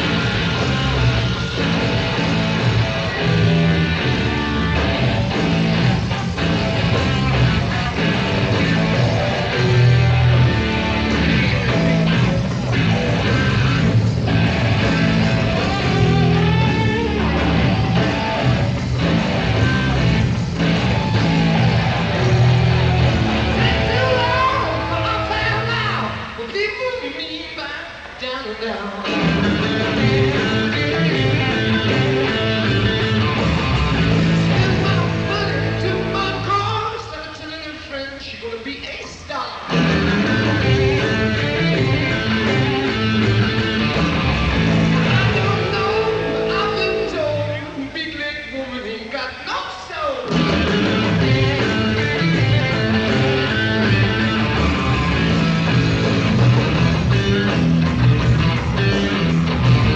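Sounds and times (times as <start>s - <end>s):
bass guitar riff: 0.0s - 26.3s, 29.0s - 36.8s, 39.6s - 47.8s, 50.2s - 59.9s
live rock band playing: 0.0s - 26.5s, 29.0s - 37.1s, 39.6s - 47.8s, 50.2s - 59.9s
distorted electric guitar: 0.0s - 26.6s, 28.9s - 37.2s, 39.0s - 48.4s, 50.1s - 59.9s
drums: 0.0s - 59.9s.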